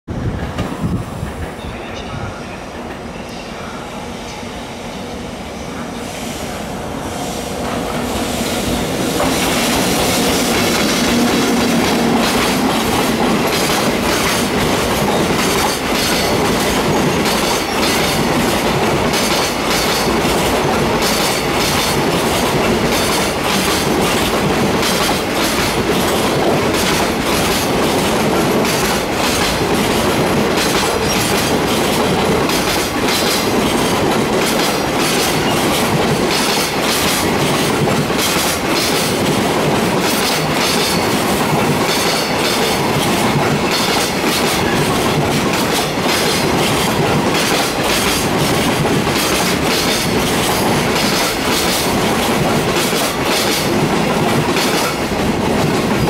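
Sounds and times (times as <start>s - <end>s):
rumbling train running noise: 0.1s - 56.0s
train wheels clattering over rail joints: 9.0s - 56.0s.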